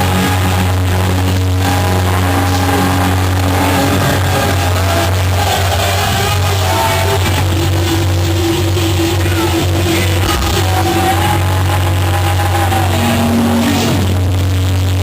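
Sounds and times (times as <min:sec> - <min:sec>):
electric guitar sliding notes: 0:00.0 - 0:15.0
heavy steady bass: 0:00.0 - 0:15.0.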